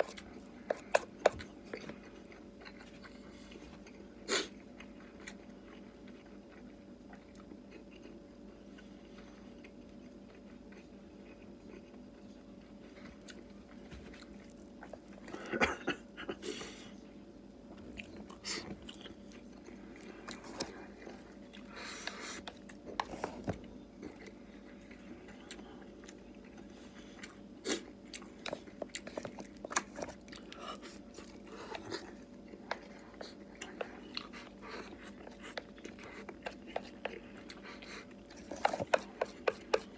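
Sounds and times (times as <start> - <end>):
person chewing: 0.0 - 17.0, 17.7 - 39.9.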